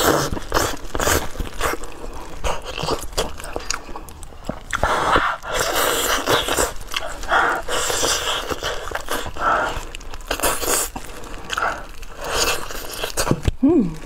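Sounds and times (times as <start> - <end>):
mouth biting and chewing: 0.0 - 13.6.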